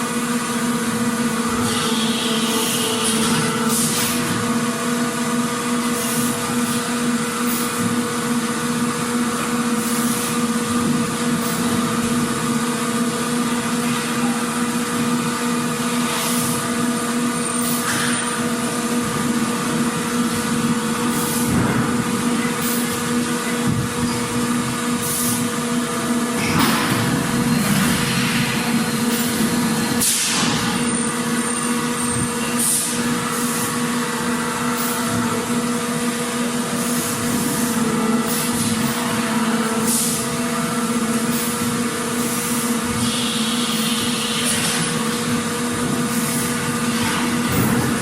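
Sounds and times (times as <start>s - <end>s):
factory machinery hum: 0.0s - 48.0s.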